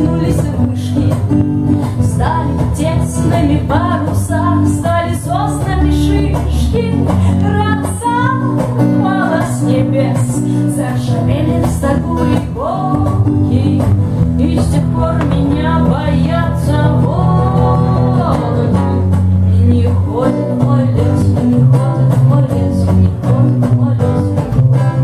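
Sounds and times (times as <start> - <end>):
electric bass guitar: 0.0 - 25.0
strummed acoustic guitar: 0.0 - 25.0
woman singing: 0.0 - 25.0.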